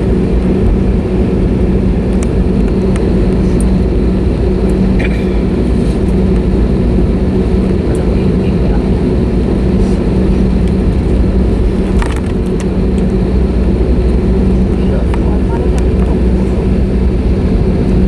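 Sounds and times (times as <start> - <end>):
aircraft cabin rumble: 0.0 - 18.0.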